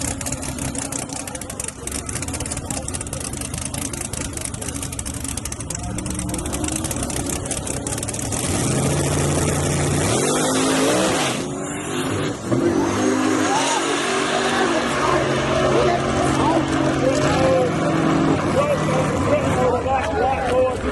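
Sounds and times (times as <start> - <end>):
pickup engine accelerating hard: 0.0 - 20.9.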